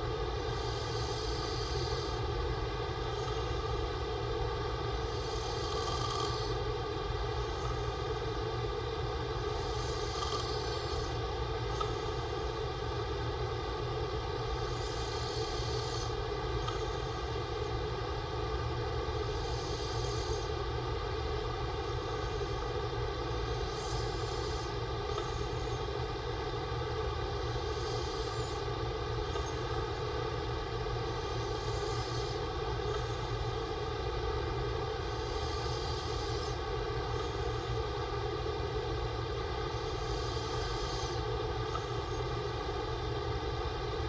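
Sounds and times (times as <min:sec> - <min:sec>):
steady droning hum: 0:00.0 - 0:44.0
man snoring softly: 0:00.3 - 0:44.0.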